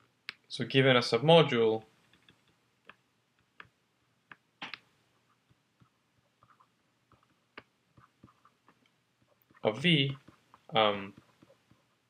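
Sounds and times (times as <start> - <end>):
stylus tapping on tablet screen: 2.1 - 12.0.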